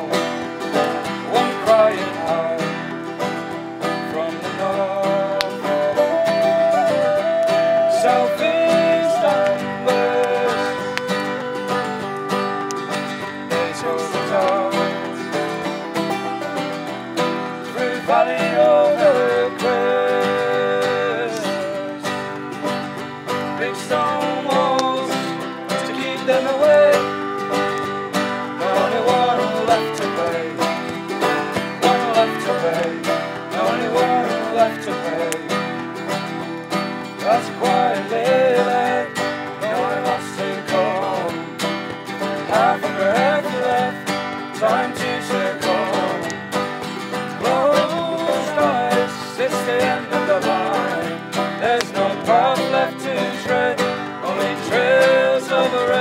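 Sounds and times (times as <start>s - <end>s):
banjo picking: 0.0s - 56.0s
voices singing wordless melody: 0.0s - 56.0s.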